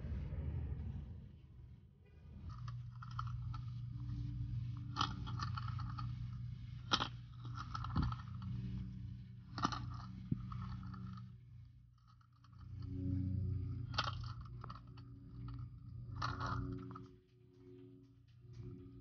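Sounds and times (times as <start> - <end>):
low underwater hum: 0.0 - 19.0.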